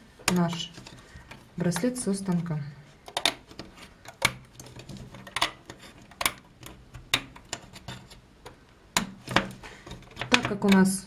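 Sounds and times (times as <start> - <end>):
plastic hook clicking on pegs: 0.2 - 7.7, 8.4 - 11.0.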